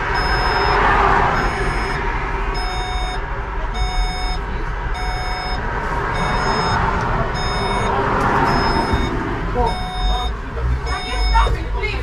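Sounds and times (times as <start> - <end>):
electronic warning beeps: 0.0 - 11.8
bus engine rumbling: 0.0 - 12.0.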